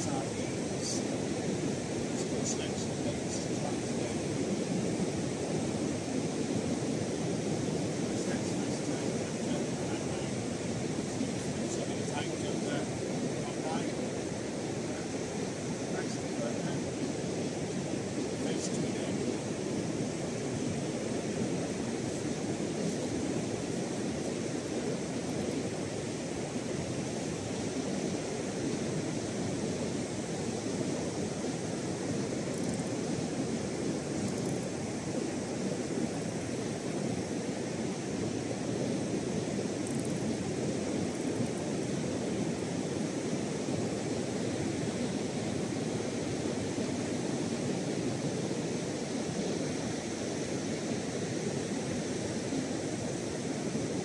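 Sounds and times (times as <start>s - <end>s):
surf breaking on a beach: 0.0s - 54.0s.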